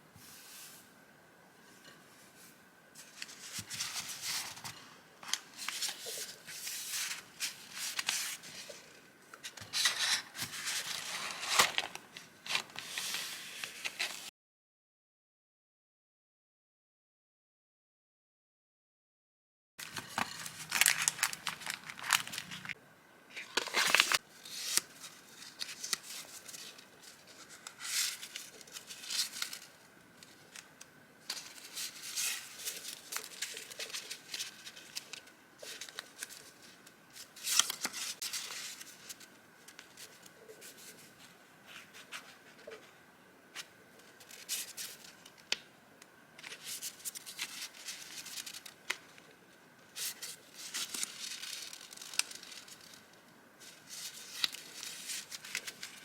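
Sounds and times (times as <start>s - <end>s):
paper rustling and crinkling: 2.4s - 14.3s, 19.8s - 22.8s, 23.4s - 42.9s, 43.5s - 45.5s, 46.4s - 49.3s, 50.0s - 56.0s.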